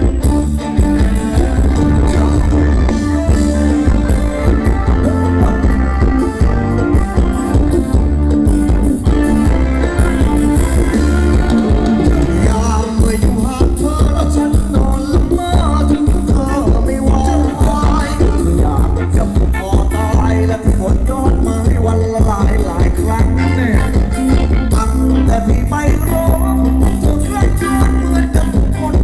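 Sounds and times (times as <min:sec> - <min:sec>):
live band music through a pa: 0:00.0 - 0:29.0
person singing: 0:01.0 - 0:08.0, 0:09.0 - 0:29.0.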